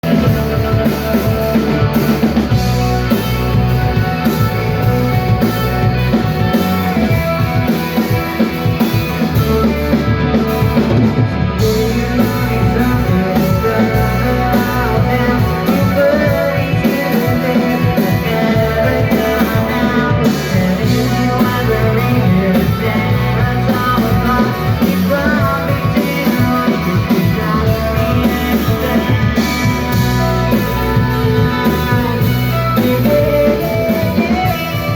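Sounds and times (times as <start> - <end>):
rock band playing live: 0.0 - 34.9.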